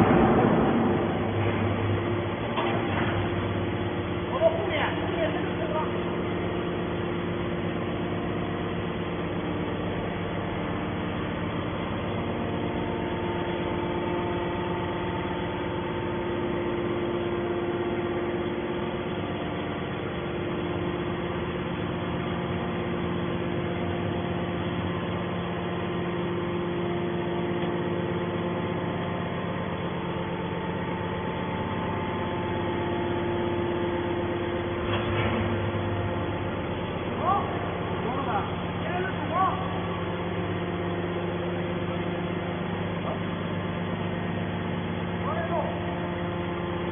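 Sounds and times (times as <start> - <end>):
metal baler machine hum: 0.0 - 46.9.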